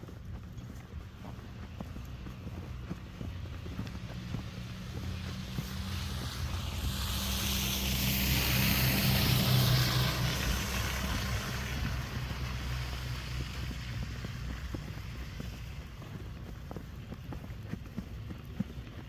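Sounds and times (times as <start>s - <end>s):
vehicle driving past: 0.6s - 16.5s.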